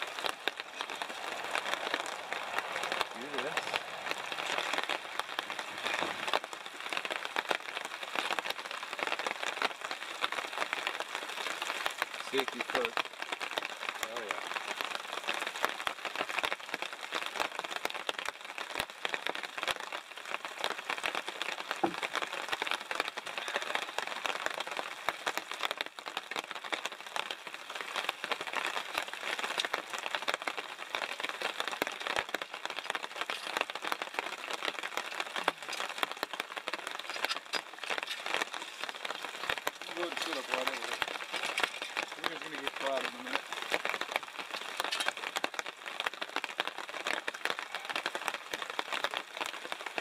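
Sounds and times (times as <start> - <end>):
steady rain pattering: 0.0 - 50.0.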